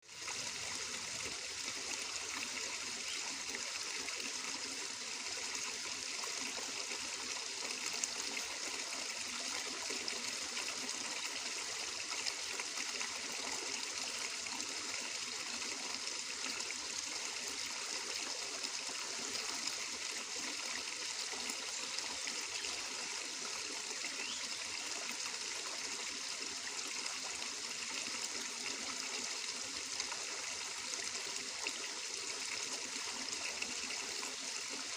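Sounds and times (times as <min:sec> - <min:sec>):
water flowing and trickling: 0:00.0 - 0:34.9.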